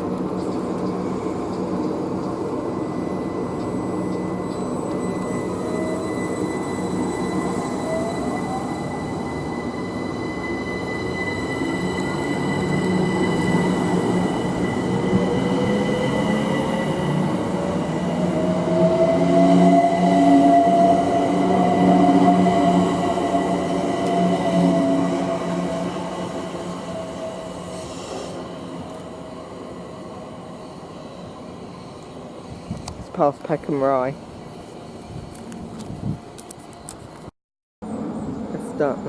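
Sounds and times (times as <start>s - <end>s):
train passing with high whine: 0.0s - 39.0s.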